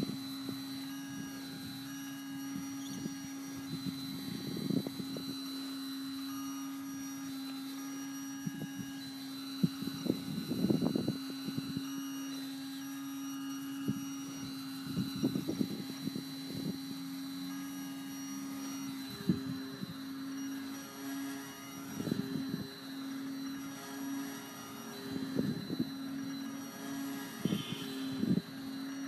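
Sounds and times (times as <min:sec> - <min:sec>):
model aircraft motor running: 0:00.0 - 0:29.0.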